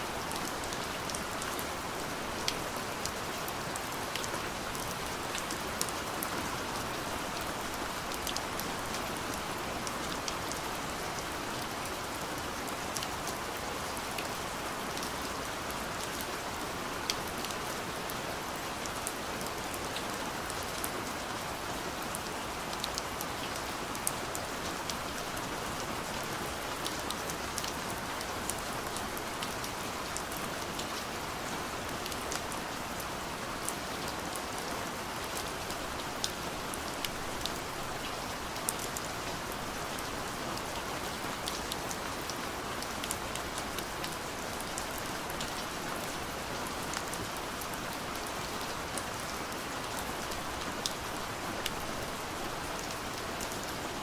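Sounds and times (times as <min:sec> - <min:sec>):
light rain on a window: 0:00.0 - 0:54.0.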